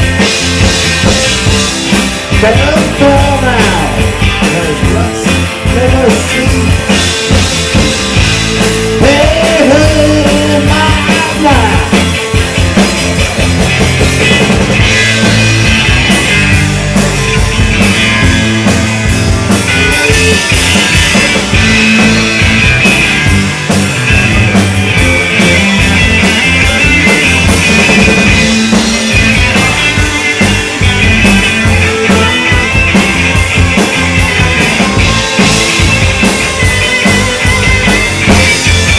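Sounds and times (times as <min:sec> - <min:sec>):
drum kit beat: 0:00.0 - 0:38.9
live rock band playing: 0:00.0 - 0:38.9.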